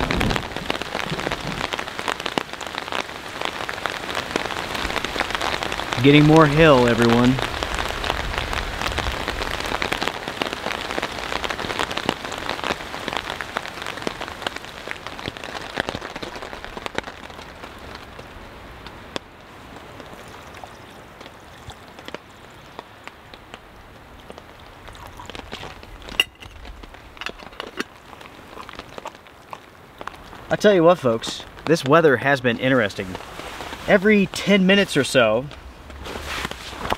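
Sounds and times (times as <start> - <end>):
hail pelting a tarp: 0.0 - 36.9.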